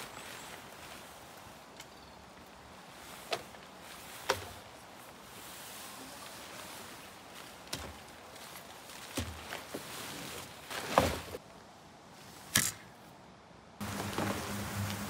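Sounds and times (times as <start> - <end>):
tent fabric rustling: 0.0 - 11.4, 13.8 - 15.0
tent poles being spread: 0.0 - 11.4, 13.8 - 15.0.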